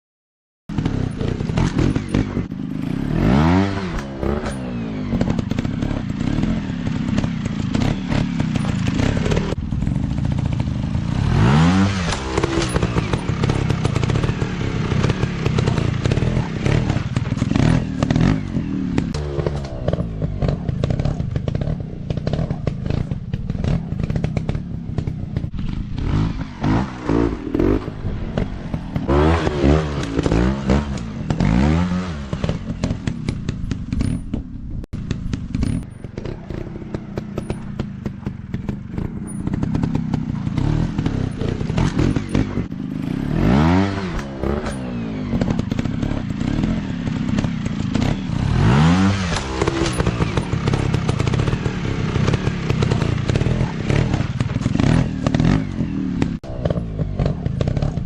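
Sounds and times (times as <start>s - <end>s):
dirt bike engines revving: 0.7s - 58.0s.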